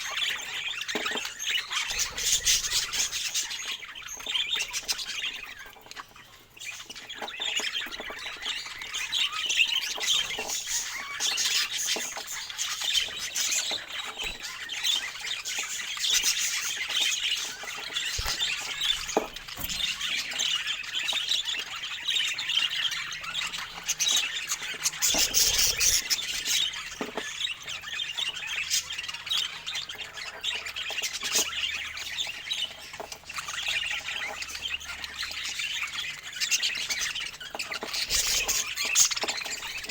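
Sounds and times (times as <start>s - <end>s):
parakeets chattering and squawking: 0.0s - 39.9s.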